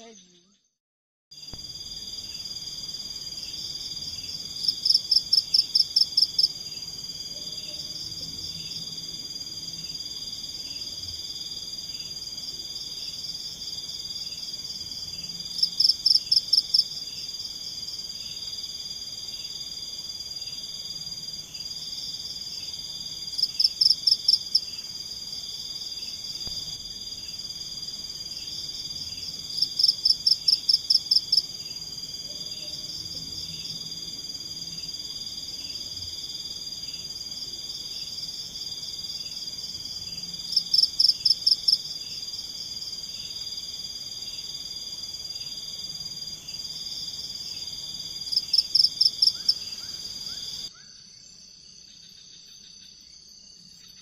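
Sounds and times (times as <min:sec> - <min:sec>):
insects and frogs chorus: 0:01.4 - 0:54.0.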